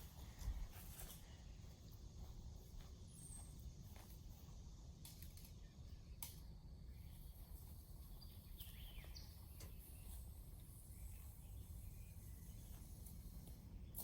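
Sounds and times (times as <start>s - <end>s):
faint outdoor hum: 0.0s - 14.0s.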